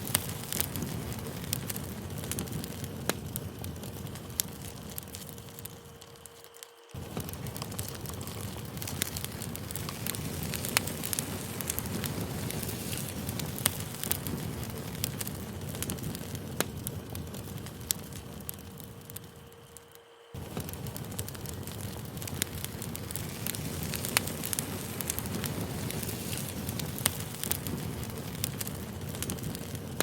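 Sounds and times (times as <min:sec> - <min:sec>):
campfire crackling: 0:00.0 - 0:30.0
sharp pops of fire: 0:00.0 - 0:30.0.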